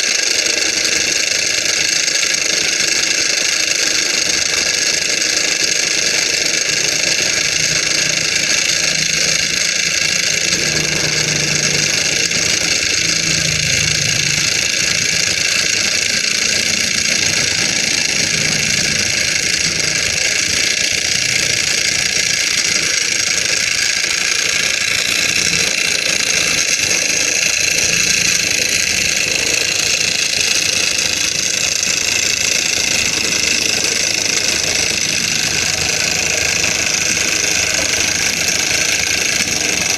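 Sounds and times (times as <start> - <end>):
small engine whirring: 0.0 - 39.9.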